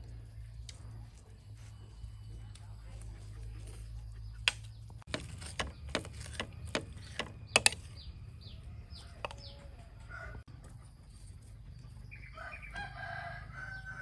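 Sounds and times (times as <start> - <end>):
bird chirping: 1.6 - 13.1.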